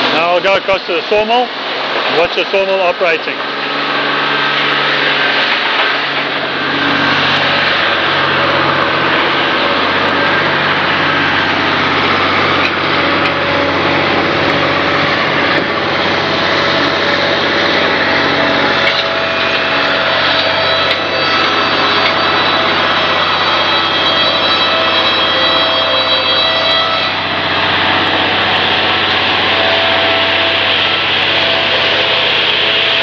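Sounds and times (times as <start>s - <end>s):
band sawmill sawing: 0.0s - 33.0s
electric motor hum and whine: 0.0s - 33.0s.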